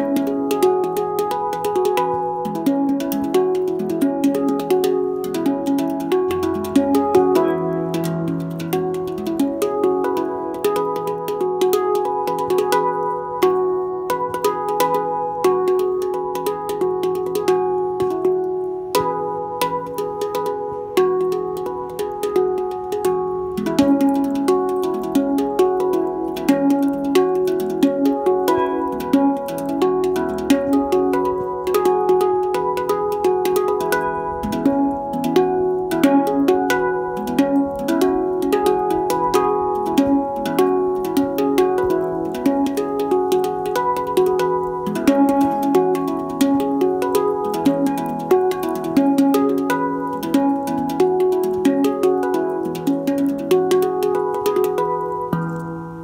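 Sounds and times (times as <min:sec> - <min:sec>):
handpan played with fingers: 0:00.0 - 0:56.0.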